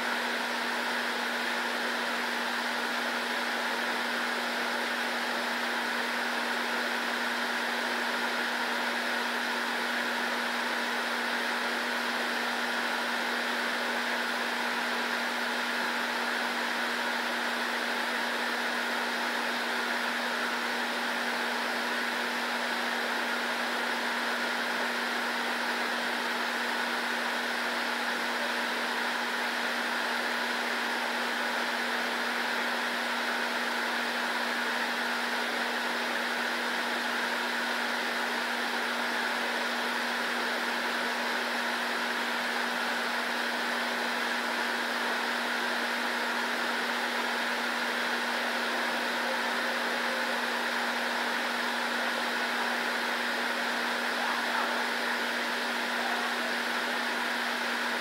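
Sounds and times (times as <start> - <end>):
fan hiss and hum: 0.0 - 58.0.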